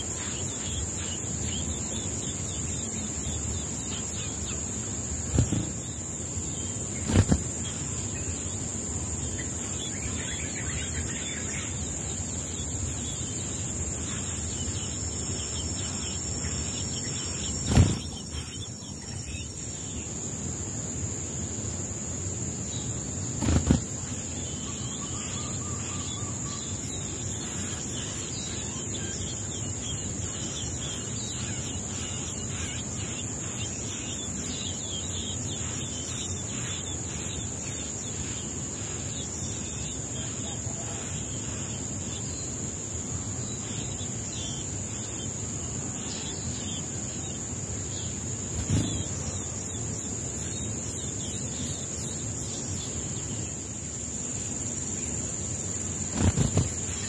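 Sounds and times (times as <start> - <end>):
faint bird chirps: 0.0 - 22.0, 22.6 - 57.0
high-pitched insect drone: 0.0 - 57.0.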